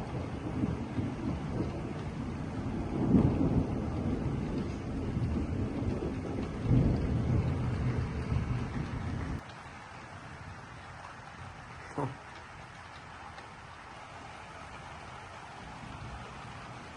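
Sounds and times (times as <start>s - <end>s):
steady rain: 0.0s - 16.9s
thunder rumbling: 0.0s - 16.9s.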